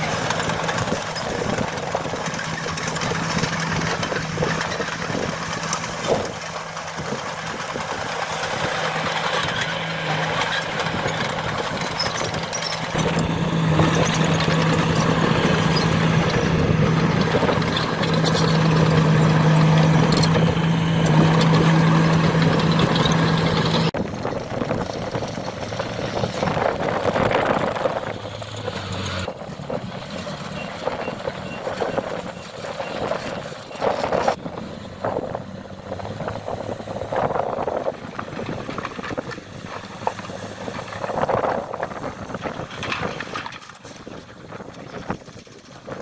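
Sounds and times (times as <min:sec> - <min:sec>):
heavy machine diesel engines droning: 0:00.0 - 0:46.0
lower-pitched engine: 0:00.0 - 0:46.0.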